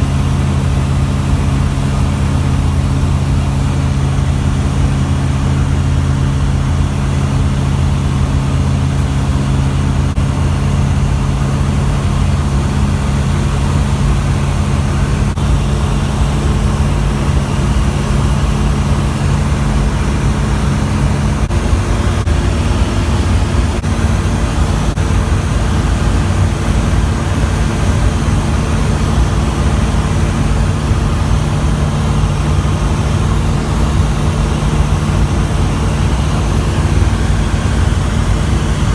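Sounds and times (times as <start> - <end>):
aircraft engine droning: 0.0 - 38.9.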